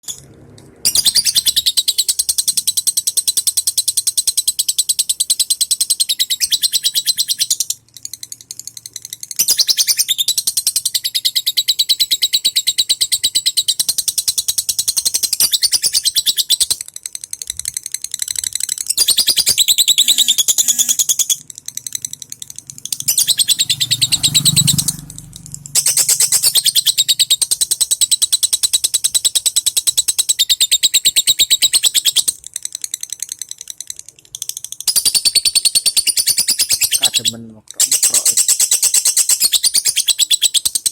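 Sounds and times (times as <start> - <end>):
lovebird chattering: 0.8 - 40.9.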